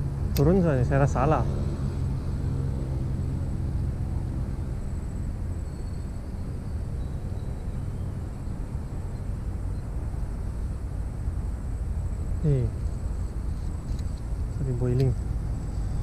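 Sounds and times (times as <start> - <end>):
low engine-like rumble: 0.0 - 16.0.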